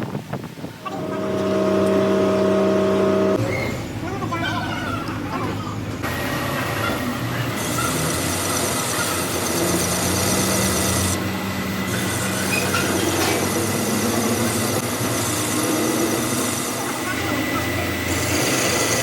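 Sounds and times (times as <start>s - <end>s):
high mechanical whine: 0.8s - 19.0s
workshop machinery running: 0.8s - 19.0s.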